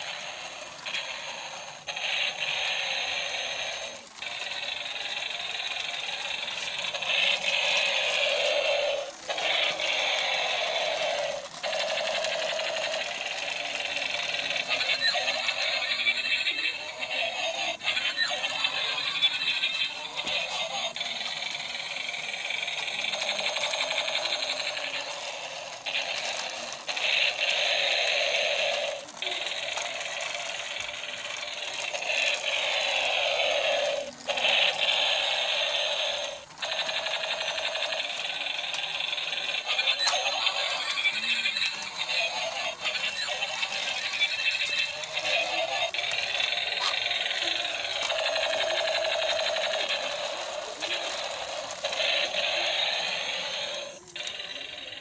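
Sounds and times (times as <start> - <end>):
toy motor and gears buzzing: 0.0 - 55.0.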